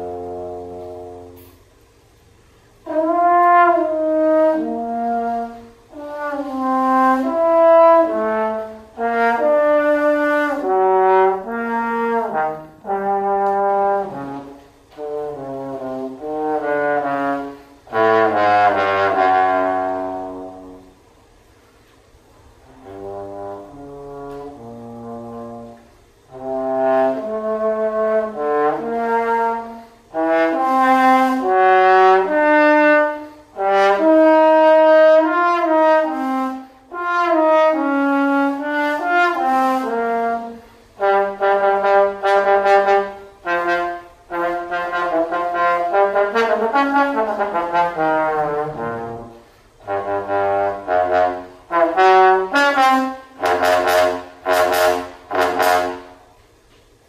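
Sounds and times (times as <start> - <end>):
trombone solo: 0.0 - 1.8, 2.6 - 21.2, 22.4 - 56.4.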